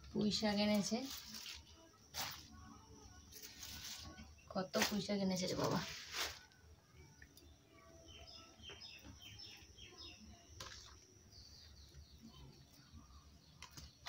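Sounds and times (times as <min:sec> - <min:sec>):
faint bird chirping: 0:00.1 - 0:14.0.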